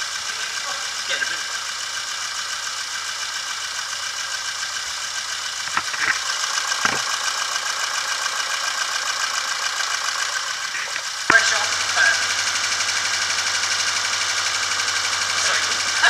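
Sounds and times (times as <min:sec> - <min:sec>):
car engine idling with ticking: 0:00.0 - 0:16.0
engine knocks: 0:00.0 - 0:16.0.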